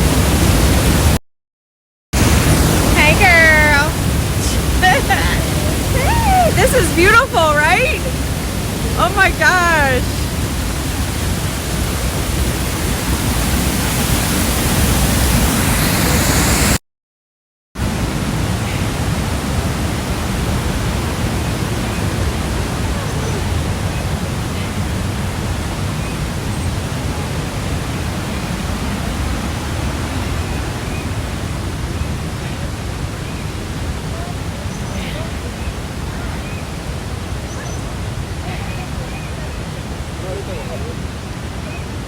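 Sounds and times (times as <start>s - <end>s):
waterfall rushing: 0.0s - 1.2s, 2.2s - 16.8s, 17.8s - 42.0s.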